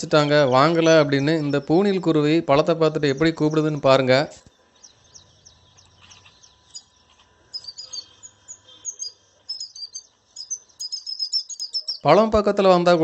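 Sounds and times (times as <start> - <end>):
small bird high chirps: 0.2 - 12.4.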